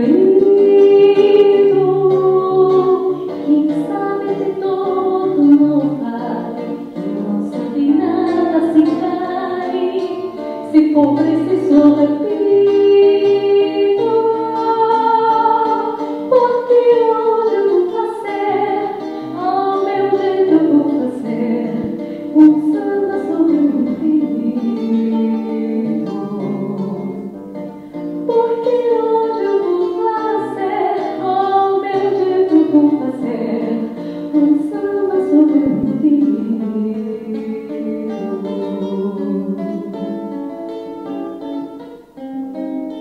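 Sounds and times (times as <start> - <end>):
woman singing: 0.0 - 27.4, 28.2 - 41.5
acoustic guitar: 0.0 - 43.0.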